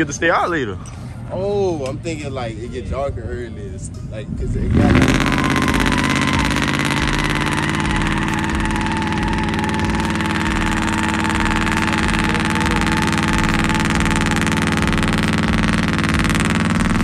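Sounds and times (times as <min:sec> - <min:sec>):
vehicle engine idling: 0:00.0 - 0:17.0
faint whine: 0:02.0 - 0:17.0.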